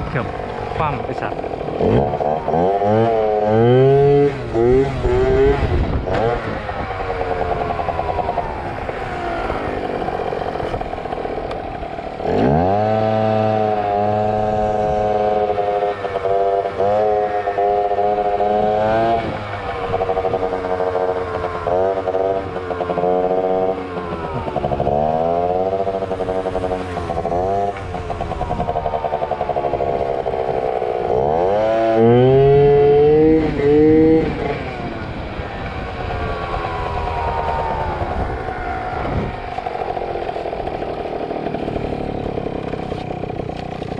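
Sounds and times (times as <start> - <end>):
scooter engine revving hard: 0.0 - 43.9.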